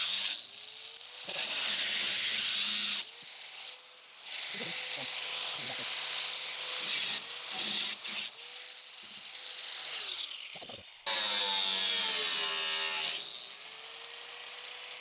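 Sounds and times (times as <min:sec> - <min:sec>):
power tool cutting sheet steel: 0:00.0 - 0:15.0.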